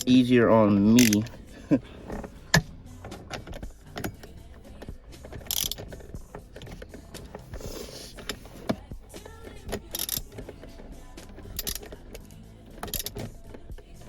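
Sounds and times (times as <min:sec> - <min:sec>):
socket wrench clicking: 0:01.0 - 0:01.4, 0:02.1 - 0:14.0.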